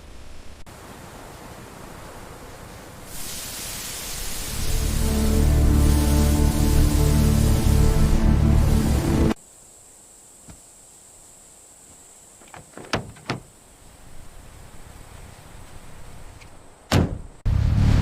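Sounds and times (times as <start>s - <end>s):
faint background hiss: 0.0s - 16.9s.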